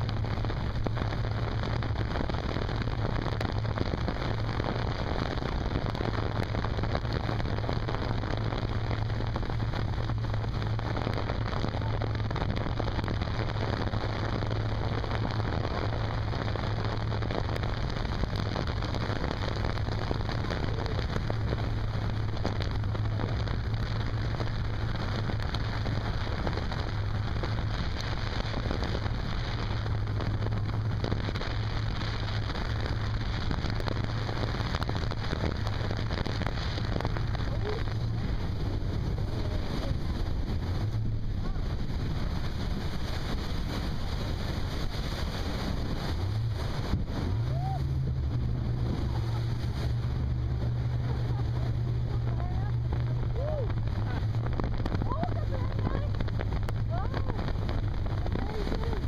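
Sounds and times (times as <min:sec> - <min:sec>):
boat engine drone: 0:00.0 - 0:59.0
rushing splashing water: 0:00.0 - 0:59.0
wind: 0:00.0 - 0:59.0.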